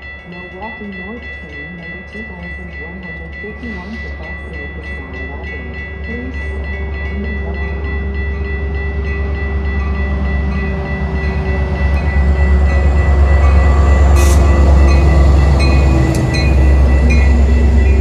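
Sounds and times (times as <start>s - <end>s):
steady high tone: 0.0s - 18.0s
train rumbling: 0.0s - 18.0s.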